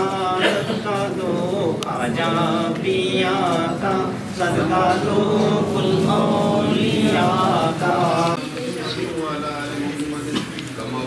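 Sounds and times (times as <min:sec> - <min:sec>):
men chanting devotional recitation: 0:00.0 - 0:11.0.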